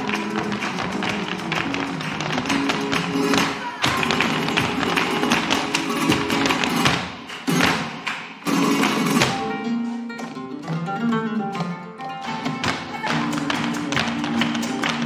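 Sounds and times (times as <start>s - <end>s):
acoustic guitar: 0.0s - 15.0s
flamenco heeled footwork: 0.0s - 15.0s
percussion: 0.0s - 15.0s.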